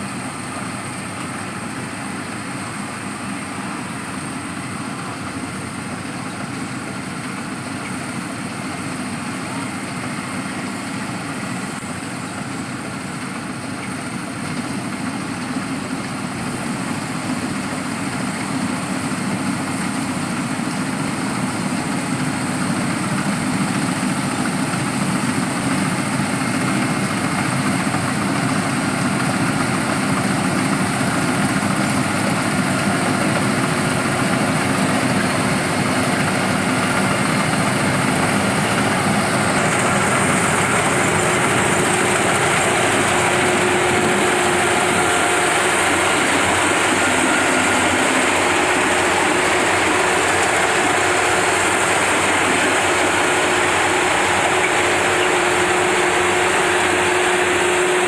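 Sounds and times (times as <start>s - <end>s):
harvesting machine engine running: 0.0s - 58.0s.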